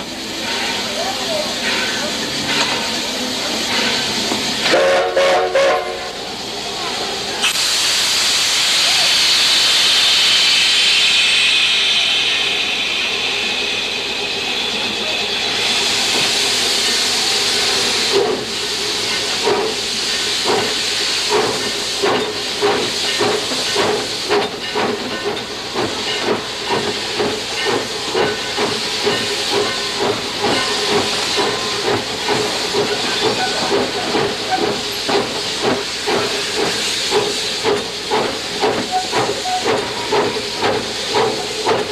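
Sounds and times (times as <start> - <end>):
locomotive exhaust chuffs and clanks: 0.0 - 5.1, 9.5 - 41.9
steam hissing loudly: 0.0 - 41.9.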